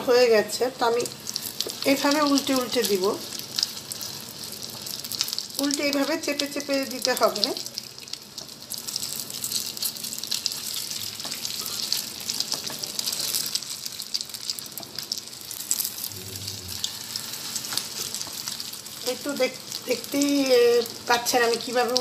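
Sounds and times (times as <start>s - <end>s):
omelette sizzling in a pan: 0.0s - 22.0s.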